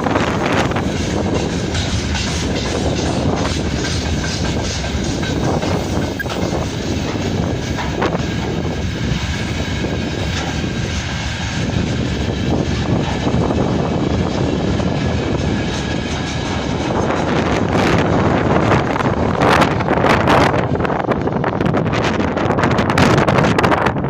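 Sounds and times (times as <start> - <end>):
freight train rumbling past: 0.0 - 24.0
wind buffeting microphone: 0.0 - 24.0.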